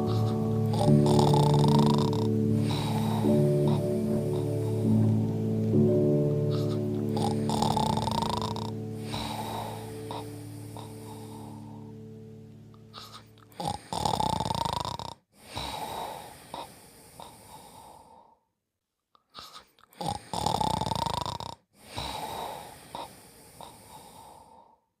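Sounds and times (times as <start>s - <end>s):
person snoring: 0.0s - 12.0s, 12.7s - 18.4s, 19.4s - 24.9s.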